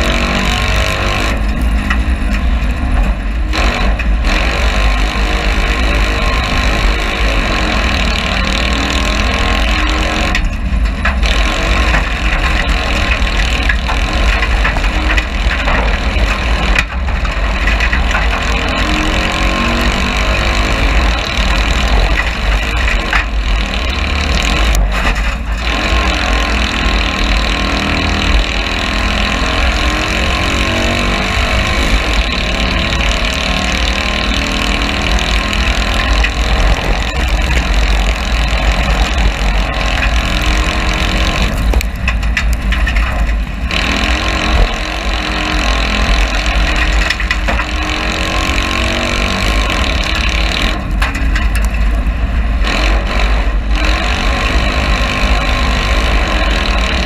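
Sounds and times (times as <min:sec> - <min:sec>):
race car engine running hard: 0:00.0 - 0:57.0
rush of noise: 0:00.0 - 0:57.0.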